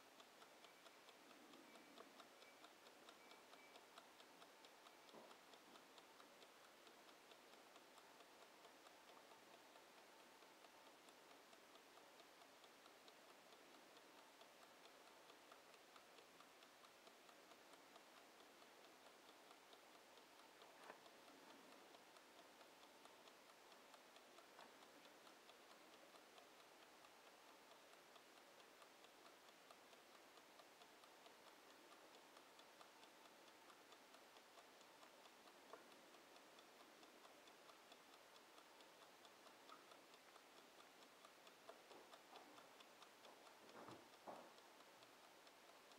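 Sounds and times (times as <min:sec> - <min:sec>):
mechanical kitchen timer ticking: 0:00.0 - 0:45.9
timer clicks: 0:00.0 - 0:45.9.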